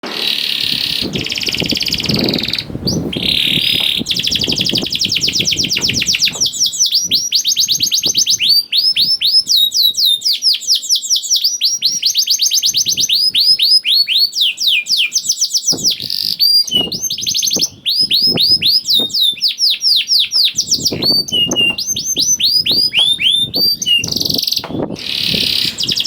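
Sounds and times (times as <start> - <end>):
canary singing trills: 0.2 - 26.0.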